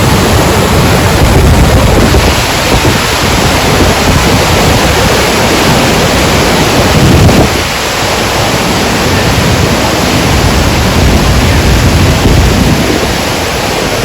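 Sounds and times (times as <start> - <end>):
waterfall rushing loudly: 0.0 - 14.0
wind rumbling on microphone: 0.0 - 14.0.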